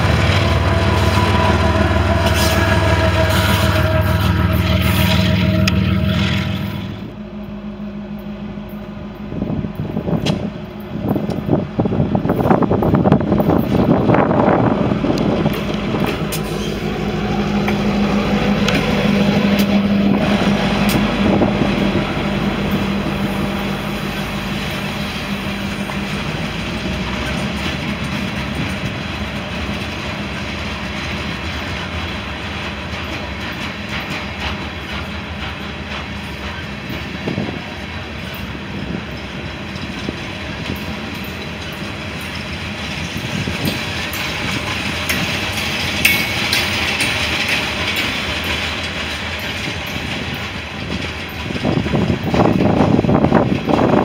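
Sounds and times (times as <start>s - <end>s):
train wheels rumbling on rails: 0.0s - 54.0s
wheels clicking over rail joints: 9.8s - 54.0s.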